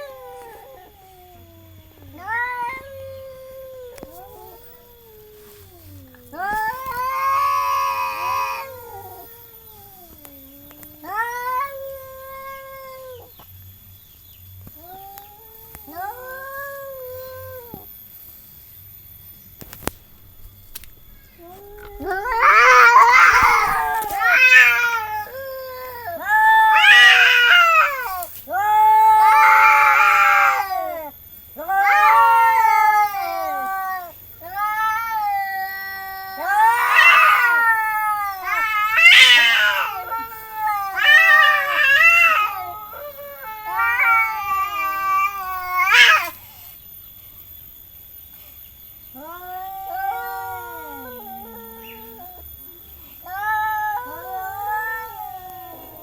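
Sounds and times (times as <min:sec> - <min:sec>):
cats yowling: 0:00.0 - 0:13.5, 0:14.6 - 0:18.0, 0:19.8 - 0:46.4, 0:49.1 - 0:56.0.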